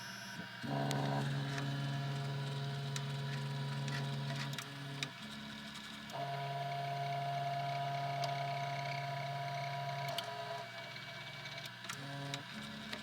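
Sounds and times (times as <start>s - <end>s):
printer stepper motors whining: 0.0s - 13.0s.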